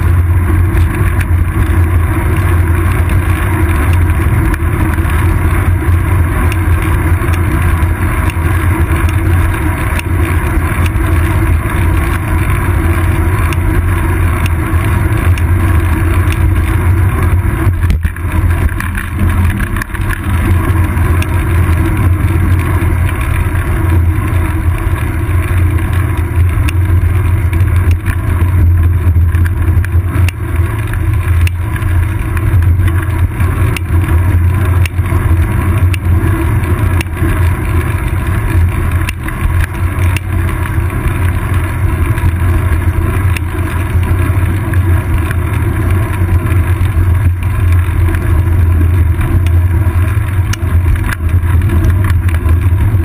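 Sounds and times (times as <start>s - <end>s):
road vibration: 0.0s - 53.0s
wind rumble: 0.0s - 53.0s
clicks and knocks from bumps: 0.5s - 53.0s.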